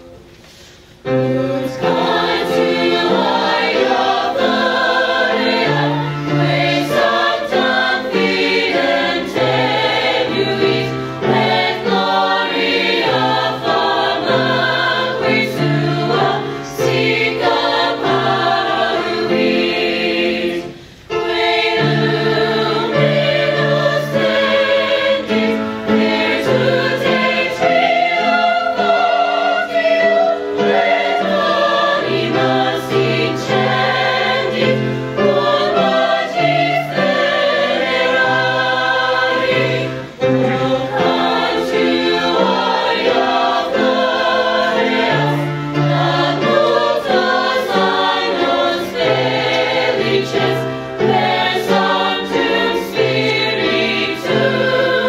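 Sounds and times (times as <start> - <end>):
mixed choir singing in parts: 1.0 - 55.0.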